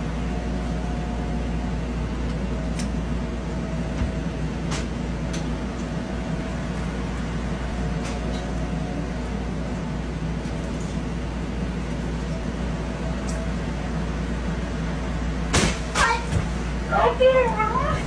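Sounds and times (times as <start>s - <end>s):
low mechanical rumble and hiss: 0.0s - 18.0s.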